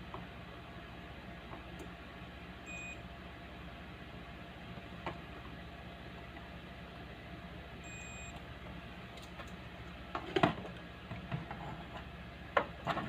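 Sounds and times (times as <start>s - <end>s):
speaker electrical hum: 0.0s - 13.0s.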